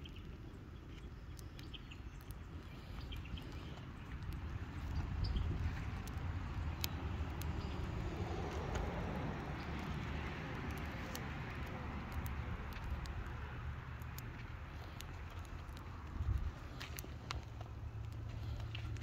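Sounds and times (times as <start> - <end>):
fire crackling and popping: 0.0 - 19.0
flames rushing: 2.2 - 19.0.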